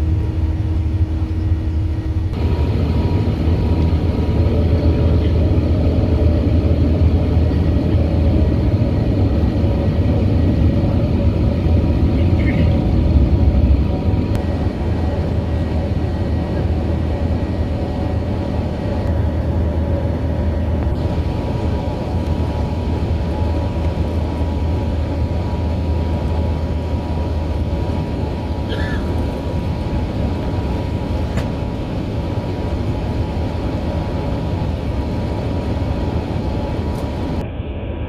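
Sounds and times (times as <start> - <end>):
aircraft engines droning: 0.0 - 38.0
low hum with steady tones: 0.0 - 38.0
rushing airflow: 0.0 - 38.0.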